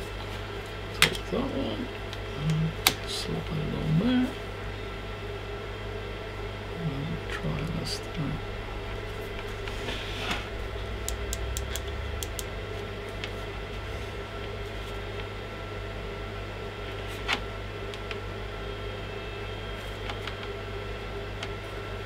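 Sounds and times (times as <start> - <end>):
steady electric hum: 0.0 - 22.0.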